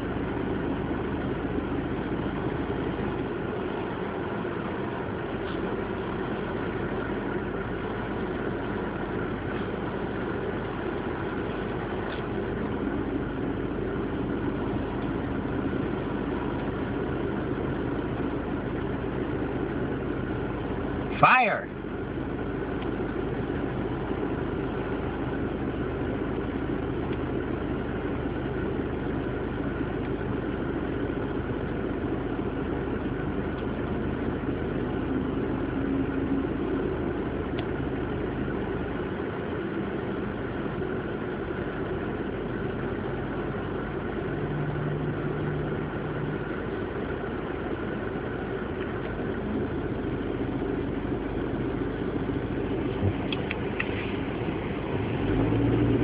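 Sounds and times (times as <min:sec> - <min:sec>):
vehicle engines idling: 0:00.0 - 0:56.0.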